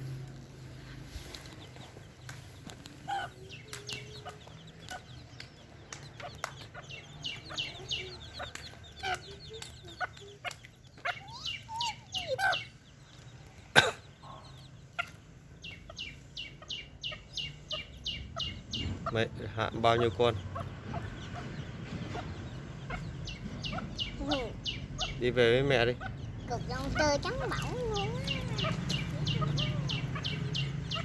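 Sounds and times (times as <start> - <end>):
baby chicks peeping: 0.0 - 31.0.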